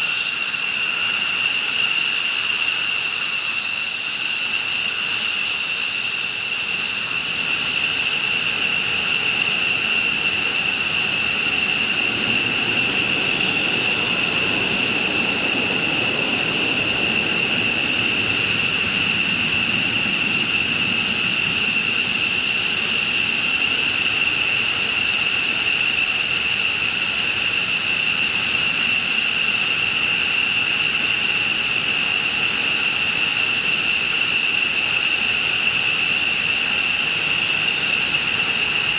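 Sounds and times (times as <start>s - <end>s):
jet engine whine and rumble: 0.0s - 38.9s.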